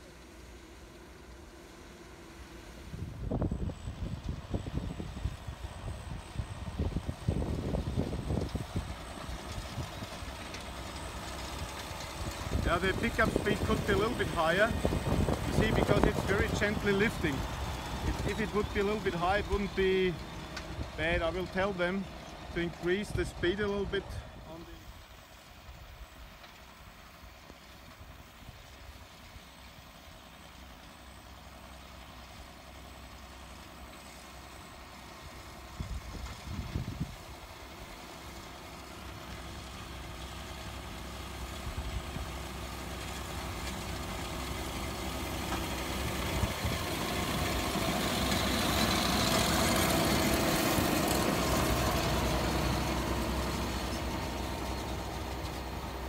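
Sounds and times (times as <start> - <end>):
hay merger working noise: 0.0 - 56.0
tractor engine hum: 0.0 - 56.0.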